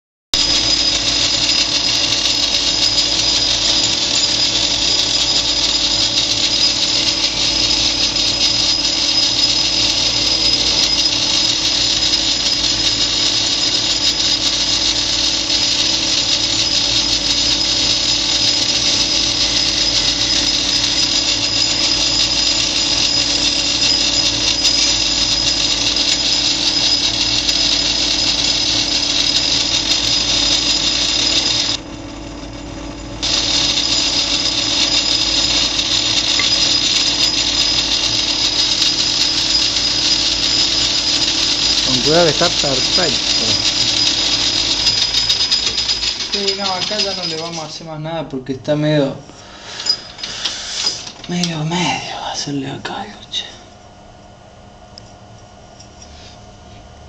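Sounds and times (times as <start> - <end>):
metal lathe whining: 0.4 - 48.0, 49.4 - 52.3.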